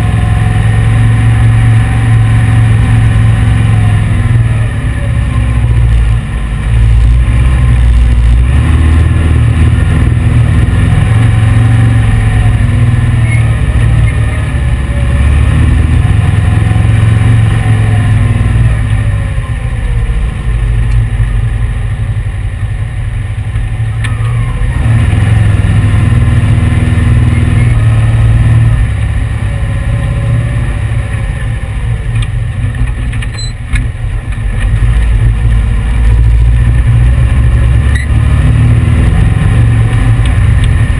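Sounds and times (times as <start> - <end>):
dune buggy engine revving: 0.0 - 40.9.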